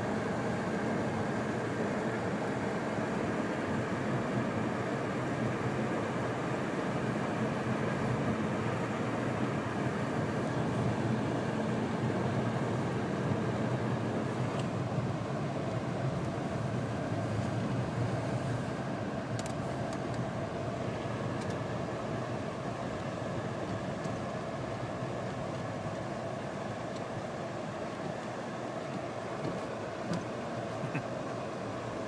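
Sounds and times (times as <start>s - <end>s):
in-cabin car road noise: 0.0s - 32.0s.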